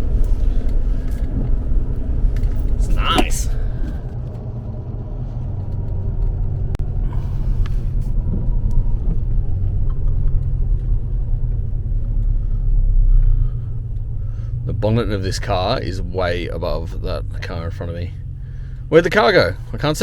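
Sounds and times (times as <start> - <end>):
pickup truck engine and road noise: 0.0 - 20.0.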